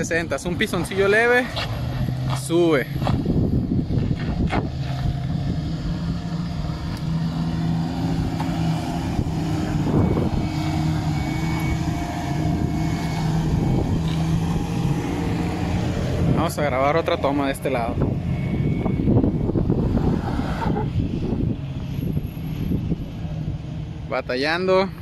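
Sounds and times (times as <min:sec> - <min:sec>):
engine running under load: 0:00.0 - 0:24.2.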